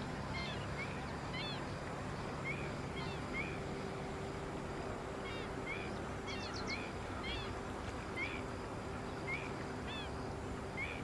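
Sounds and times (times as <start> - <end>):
birds chirping: 0.0 - 11.0
low hum: 0.0 - 11.0.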